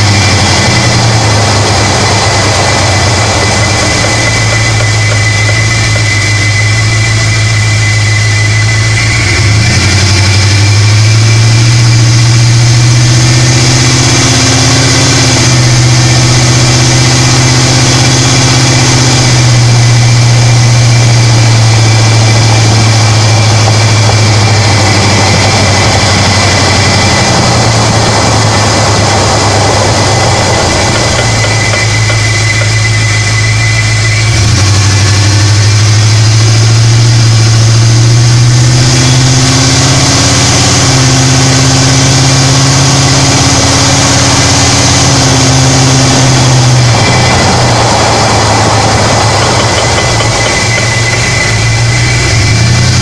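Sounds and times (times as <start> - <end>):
continuous noisy rush: 0.0 - 53.0
pickup truck engine droning: 0.0 - 53.0.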